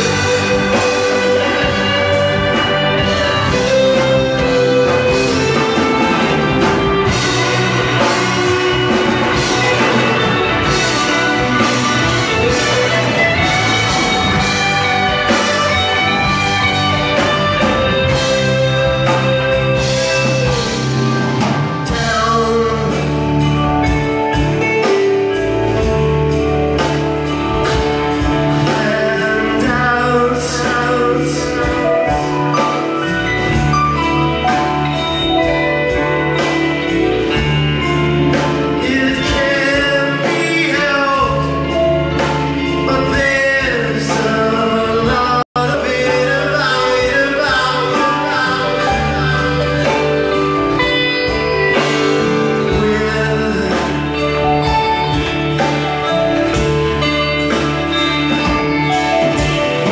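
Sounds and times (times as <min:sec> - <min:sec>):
person singing: 0:00.0 - 0:26.2, 0:27.6 - 0:59.9
bass guitar: 0:00.0 - 0:59.9
drums: 0:00.0 - 0:59.9
electric guitars: 0:00.0 - 0:59.9.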